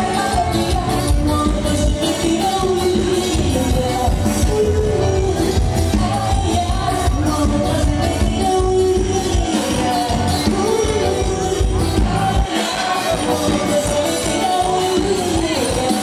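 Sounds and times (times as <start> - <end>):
person singing: 0.0 - 16.0
upbeat dance band: 0.0 - 16.0.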